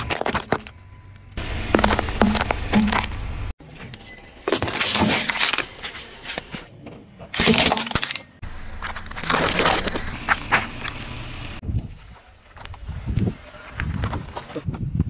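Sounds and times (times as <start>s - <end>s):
things crunching under car tyres: 1.4s - 3.6s, 4.2s - 6.7s, 7.3s - 14.8s.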